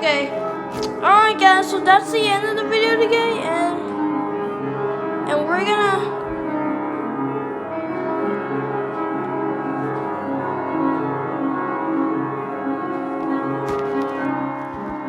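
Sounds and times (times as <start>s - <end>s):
held keyboard chords: 0.0s - 15.0s.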